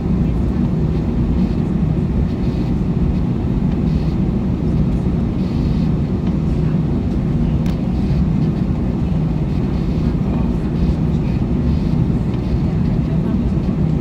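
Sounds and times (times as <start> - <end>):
airliner cabin low rumble: 0.0 - 14.0.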